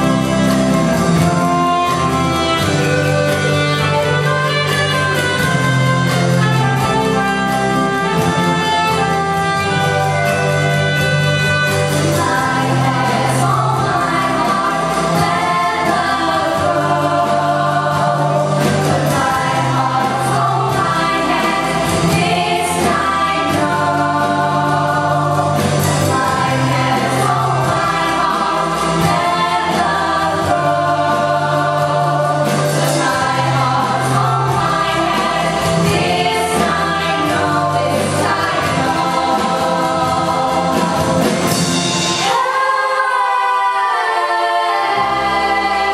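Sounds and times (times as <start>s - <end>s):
choir singing: 0.0s - 45.9s
instrumental accompaniment: 0.0s - 45.9s.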